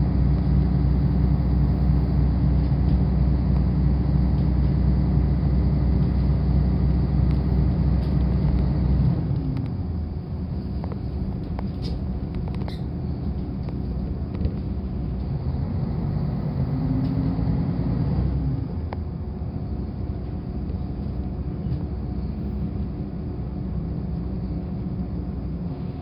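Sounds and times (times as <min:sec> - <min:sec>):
railcar rumble on rails: 0:00.0 - 0:26.0.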